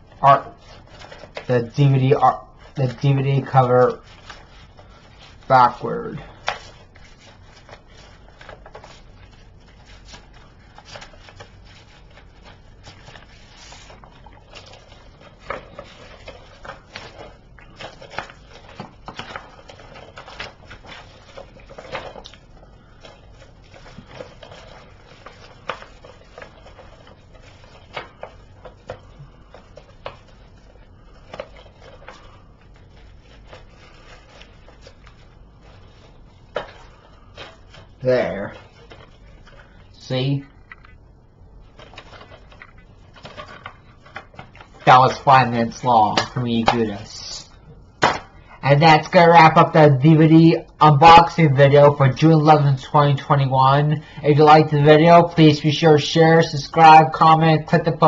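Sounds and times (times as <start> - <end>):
paper crinkling: 0.0 - 58.0.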